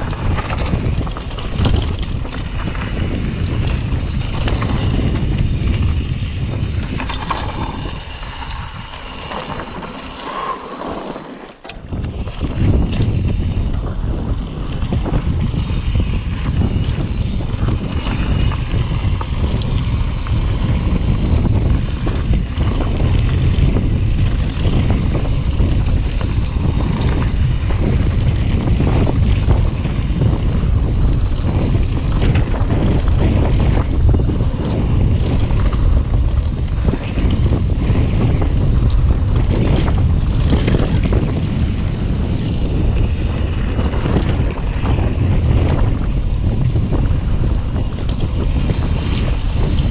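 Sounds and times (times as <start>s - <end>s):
bike rattling over rocks: 0.0s - 49.9s
wind on microphone: 0.0s - 49.9s.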